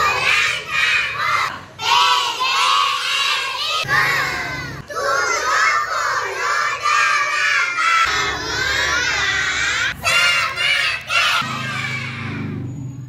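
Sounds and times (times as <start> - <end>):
children shouting in chorus: 0.0 - 12.5.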